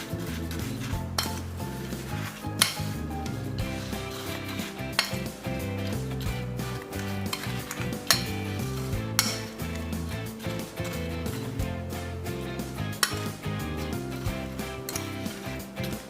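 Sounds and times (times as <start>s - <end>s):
background music with bassline: 0.0s - 16.0s
utensil scraping in a bowl: 0.0s - 16.0s.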